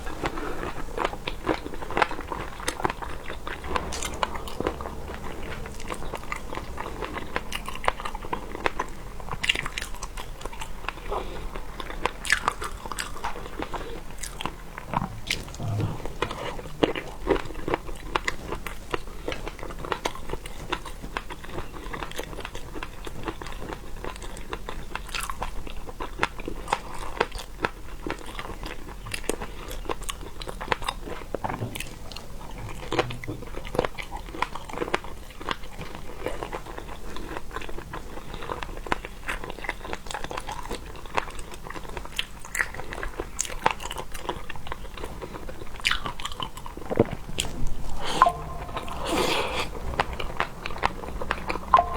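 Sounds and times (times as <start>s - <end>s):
chewing and crunching seafood: 0.0s - 51.9s.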